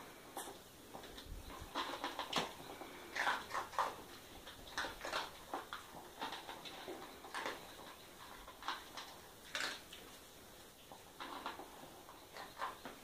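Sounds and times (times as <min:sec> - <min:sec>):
dog chewing crunchy food: 0:00.1 - 0:13.0.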